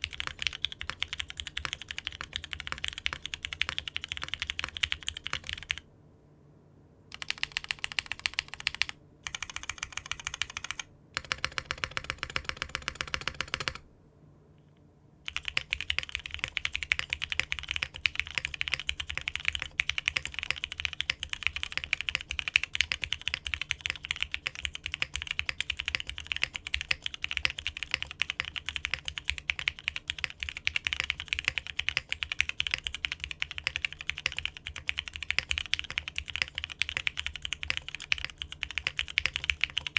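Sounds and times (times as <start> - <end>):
mechanical keyboard typing: 0.0 - 5.8, 7.1 - 13.8, 15.3 - 39.9.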